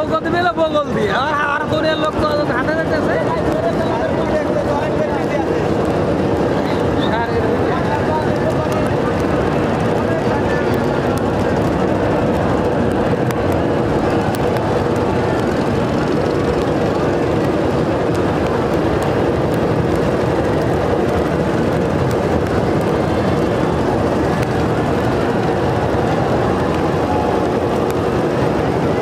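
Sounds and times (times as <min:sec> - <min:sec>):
motorboat engine drone: 0:00.0 - 0:29.0.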